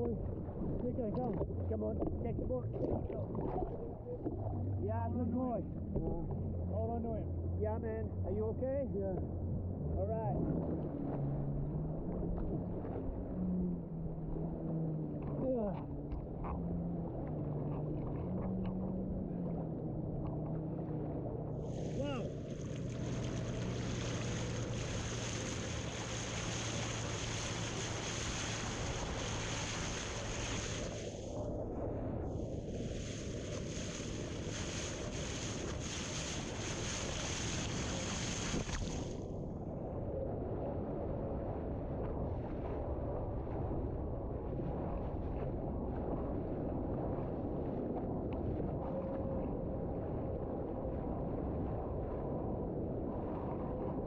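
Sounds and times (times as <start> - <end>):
low hum: 0.0 - 54.0
wind and water noise: 0.0 - 54.0.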